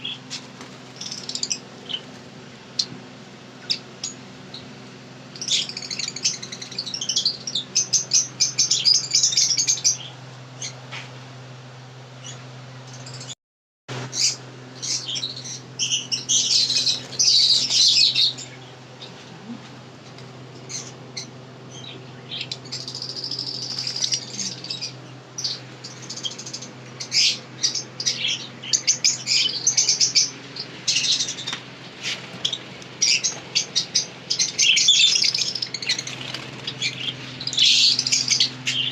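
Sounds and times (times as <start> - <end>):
birds chirping and twittering: 0.0 - 38.9
steady low hum: 0.0 - 38.9.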